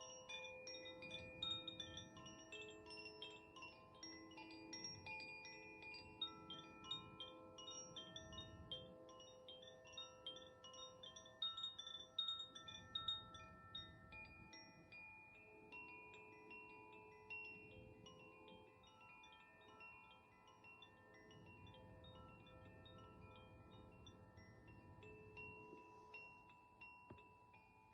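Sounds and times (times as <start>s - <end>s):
wind chime ringing: 0.0s - 27.9s.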